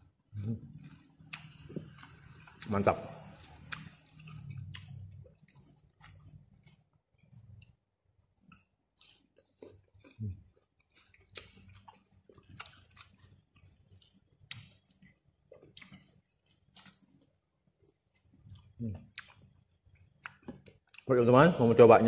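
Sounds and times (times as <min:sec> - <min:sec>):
person chewing crunchy fruit: 0:00.0 - 0:21.1.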